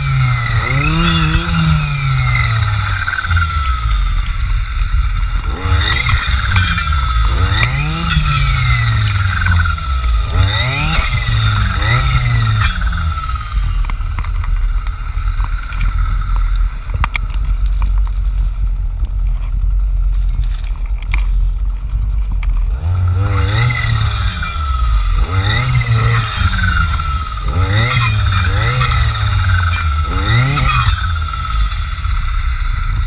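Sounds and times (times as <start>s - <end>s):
two-stroke engine revving: 0.0s - 17.4s, 22.5s - 33.0s.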